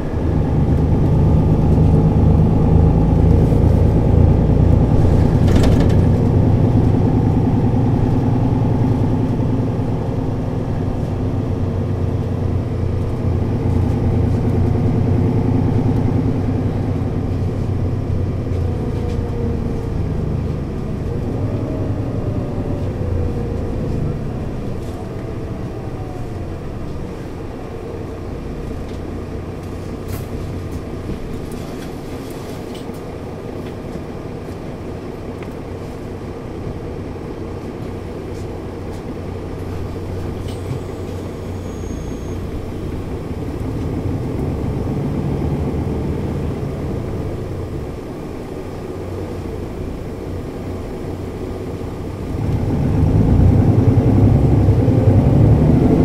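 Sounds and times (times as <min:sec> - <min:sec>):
bus engine running: 0:00.0 - 0:56.0.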